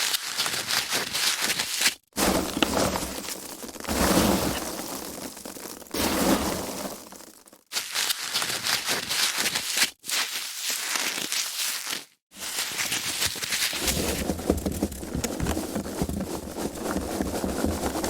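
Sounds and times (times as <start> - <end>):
foam packaging crackling: 0.0 - 18.0.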